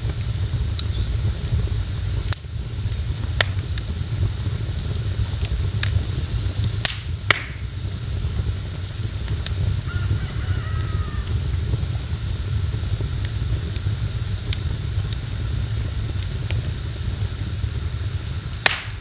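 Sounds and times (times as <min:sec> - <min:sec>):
sharp fire pops: 0:00.0 - 0:19.0
wood fire crackling: 0:00.0 - 0:19.0.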